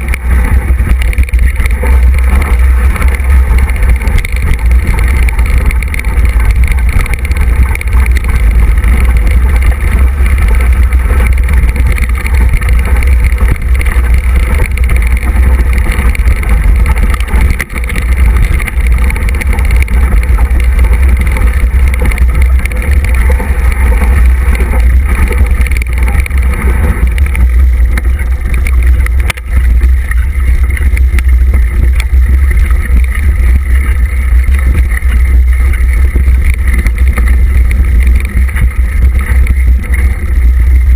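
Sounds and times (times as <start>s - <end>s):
bike rattling over stones: 0.0s - 40.9s
wind buffeting microphone: 0.0s - 40.9s.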